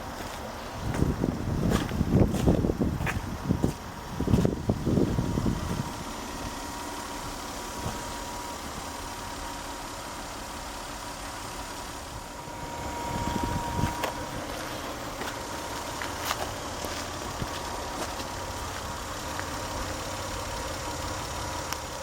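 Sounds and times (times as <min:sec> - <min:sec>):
car engine idling: 0:00.0 - 0:22.0
thin steady whine: 0:02.7 - 0:22.0.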